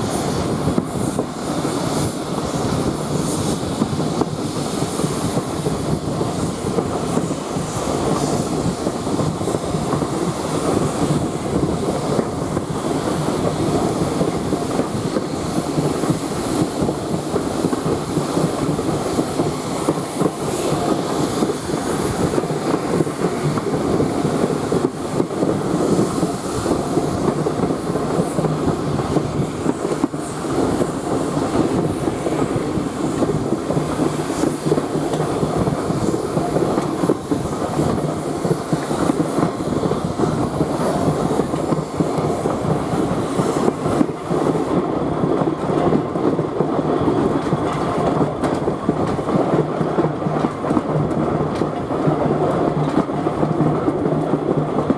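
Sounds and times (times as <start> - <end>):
clickety-clack of rails: 0.0 - 54.9
train wheels rumbling on rail: 0.0 - 54.9.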